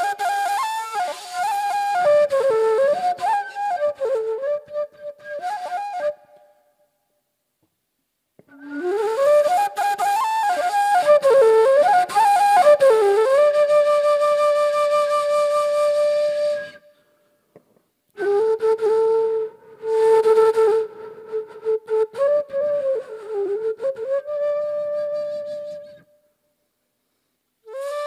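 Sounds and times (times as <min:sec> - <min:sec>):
solo flute melody: 0:00.0 - 0:06.9, 0:08.4 - 0:17.2, 0:18.2 - 0:26.4, 0:27.6 - 0:28.0.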